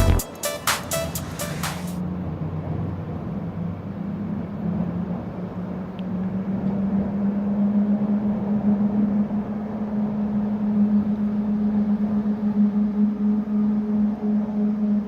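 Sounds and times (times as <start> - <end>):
funicular car hum and rumble: 2.0 - 15.0.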